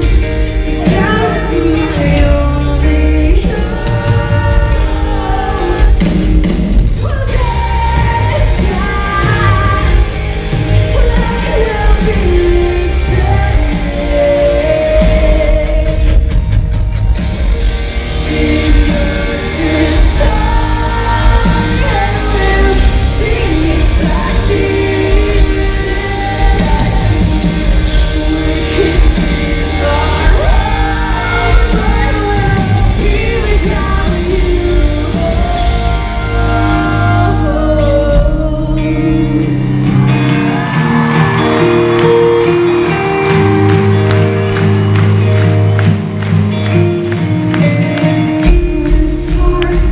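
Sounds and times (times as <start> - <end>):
bass guitar: 0.0 - 49.9
distorted guitars: 0.0 - 49.9
loud drums: 0.0 - 49.9
person singing lead vocals: 0.0 - 49.9.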